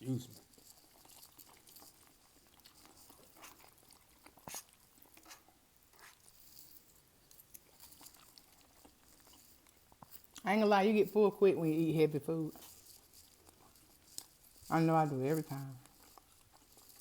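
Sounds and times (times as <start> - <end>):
people chewing: 0.0 - 17.0.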